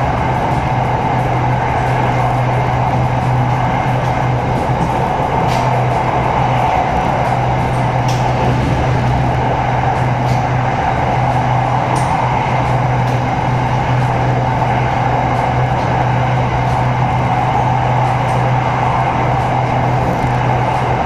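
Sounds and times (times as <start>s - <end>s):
train interior low hum: 0.0s - 21.0s
wheel and rail noise: 0.0s - 21.0s.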